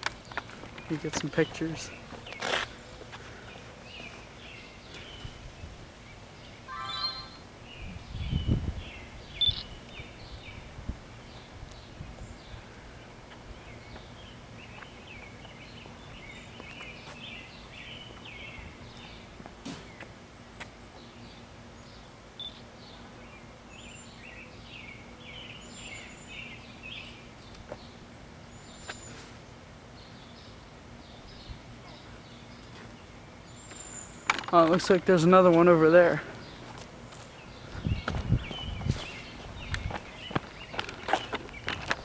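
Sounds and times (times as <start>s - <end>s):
outdoor background noise: 0.0s - 42.0s
small birds chirping: 0.0s - 42.0s.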